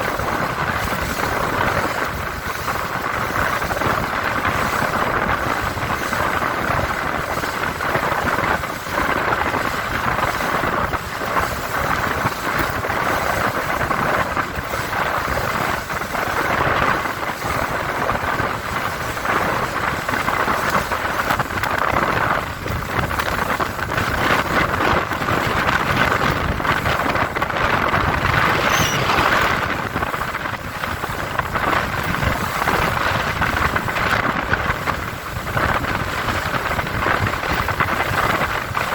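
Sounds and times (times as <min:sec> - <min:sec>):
powerboat running at speed: 0:00.0 - 0:38.9
water rushing past hull: 0:00.0 - 0:38.9
wind buffeting microphone: 0:00.0 - 0:38.9.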